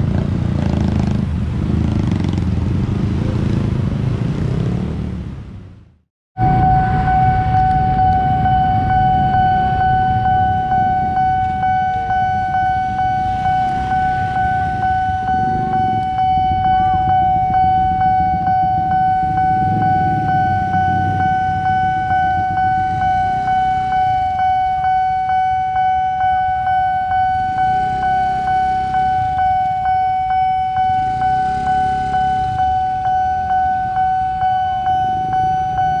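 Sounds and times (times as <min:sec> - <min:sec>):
level crossing alarm pulsing: 0:06.4 - 0:36.0
motorcycle engines idling: 0:06.8 - 0:36.0.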